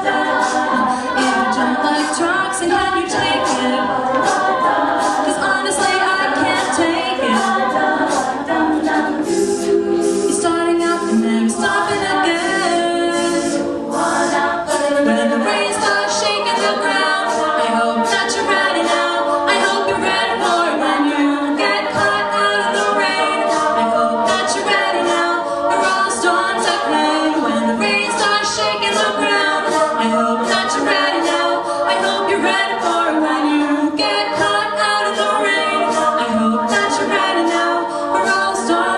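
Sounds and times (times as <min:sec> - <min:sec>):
women singing a cappella harmony: 0:00.0 - 0:38.9.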